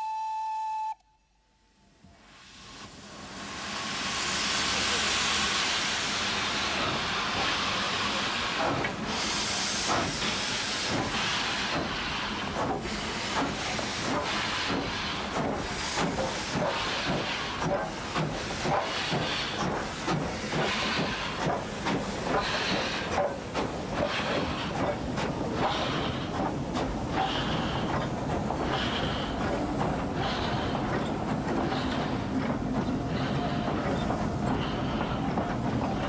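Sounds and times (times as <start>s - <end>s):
steam hissing: 2.2s - 36.0s
steam locomotive exhaust chuffs: 2.2s - 36.0s.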